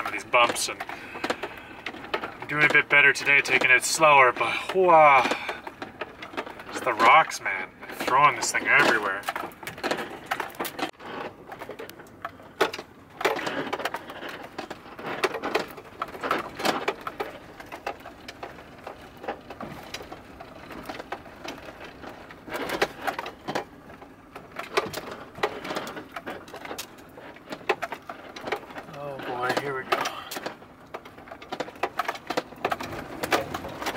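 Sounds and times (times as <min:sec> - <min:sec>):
van rattling on rough road: 0:00.0 - 0:33.9
wheels knocking on rocks: 0:00.0 - 0:33.9.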